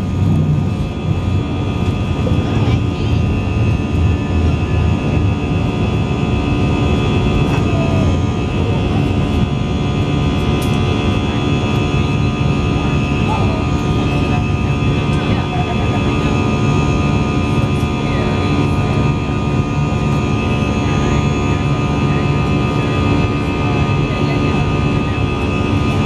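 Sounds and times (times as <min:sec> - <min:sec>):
jet engines inside cabin: 0:00.0 - 0:26.0.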